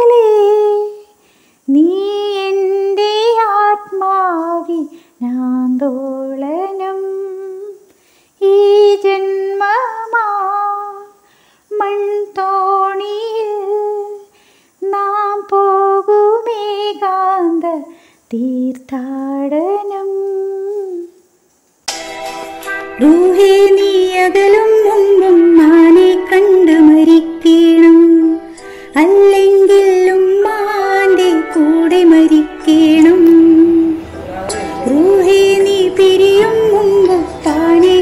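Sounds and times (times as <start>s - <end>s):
woman singing unaccompanied: 0.0s - 7.8s, 8.4s - 21.2s, 23.0s - 38.0s.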